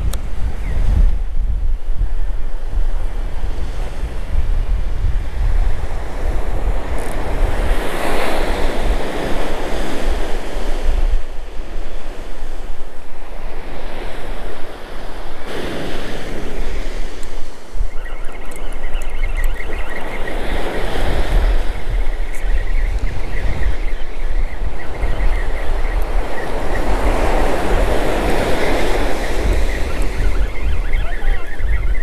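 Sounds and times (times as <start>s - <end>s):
wind rumbling on microphone: 0.0s - 32.0s
ocean surf breaking: 2.8s - 18.5s, 19.7s - 32.0s.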